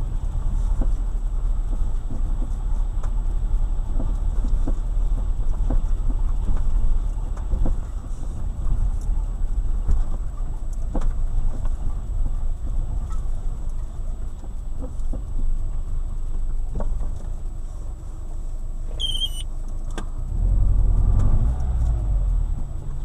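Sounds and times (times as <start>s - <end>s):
car rumbling over bumps: 0.0s - 23.0s.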